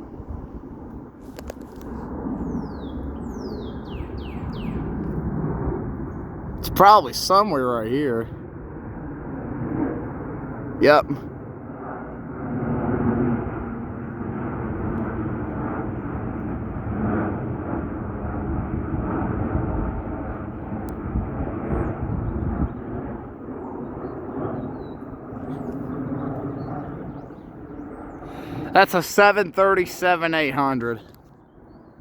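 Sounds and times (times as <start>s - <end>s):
jet airliner flying past: 0.0s - 32.0s.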